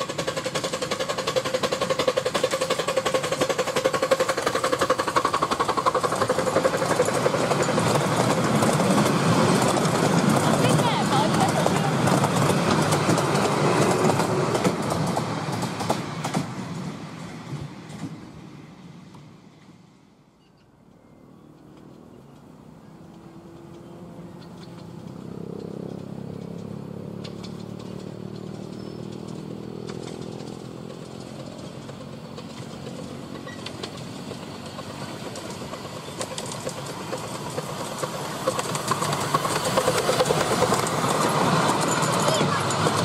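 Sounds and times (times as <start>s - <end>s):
wheels clicking and clattering: 0.0s - 18.2s, 20.5s - 43.0s
miniature steam train running: 0.0s - 43.0s.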